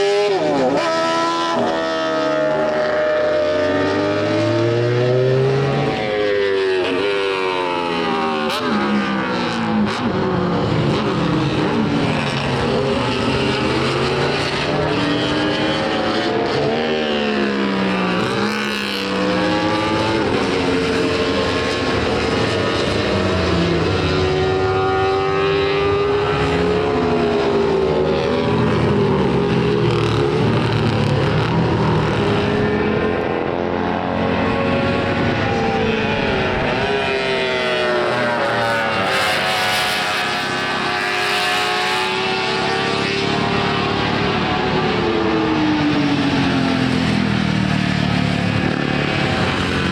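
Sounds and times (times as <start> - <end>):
racing motorcycle engines revving: 0.0 - 49.9.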